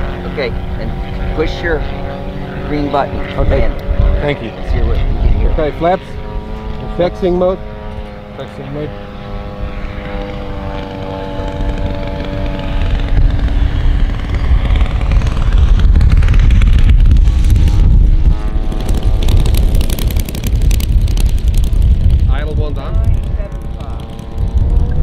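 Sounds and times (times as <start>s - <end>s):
model plane engine running: 0.0s - 25.0s.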